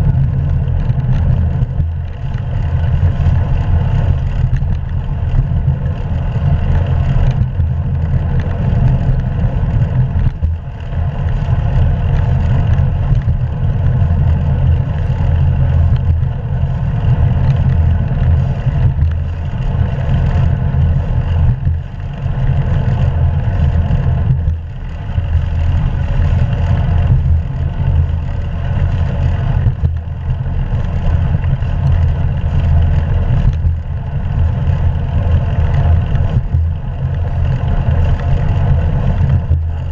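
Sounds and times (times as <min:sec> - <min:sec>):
bicycle road noise: 0:00.0 - 0:39.9
wind rumble: 0:00.0 - 0:39.9.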